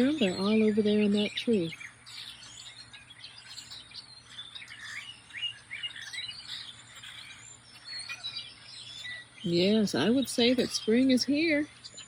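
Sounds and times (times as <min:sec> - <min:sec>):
birds singing and chirping: 0:00.0 - 0:12.0.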